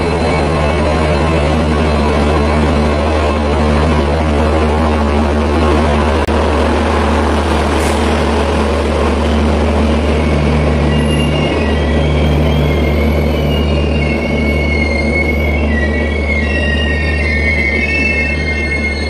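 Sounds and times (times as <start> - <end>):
high-pitched wheel squeal: 0.0 - 6.2, 6.8 - 19.0
train coaches rumbling: 0.0 - 19.0.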